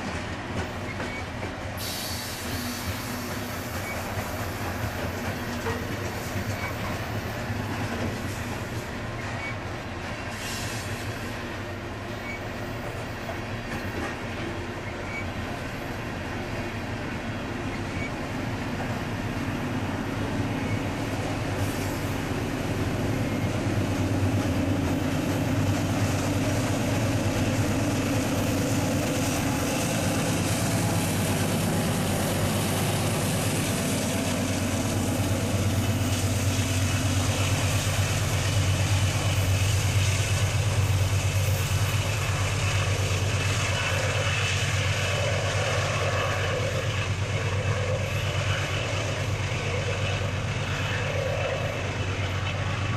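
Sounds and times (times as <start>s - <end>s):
diesel locomotive engines droning: 0.0s - 52.9s
steel train wheels on rails: 0.0s - 52.9s.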